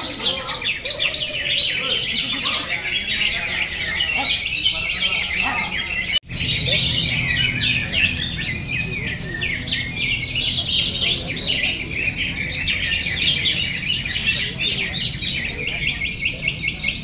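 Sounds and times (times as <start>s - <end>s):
bird singing chattering whistled notes: 2.8s - 17.0s.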